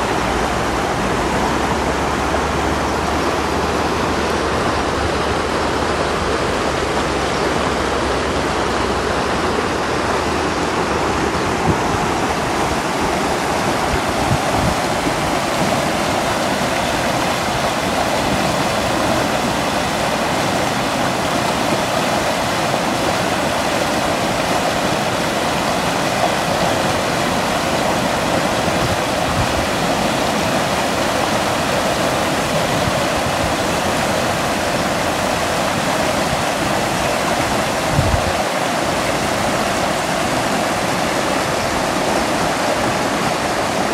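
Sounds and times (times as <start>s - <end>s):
floodwater rushing over stones: 0.0s - 43.9s.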